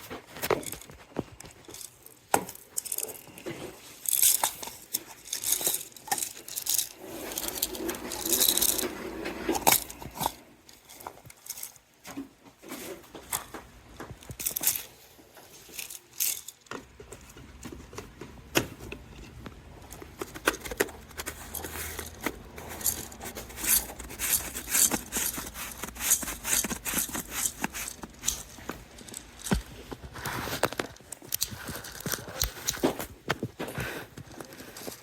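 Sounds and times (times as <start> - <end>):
packaging rustling: 0.0 - 17.9, 19.8 - 35.0
handling clicks and rattles: 0.0 - 35.0.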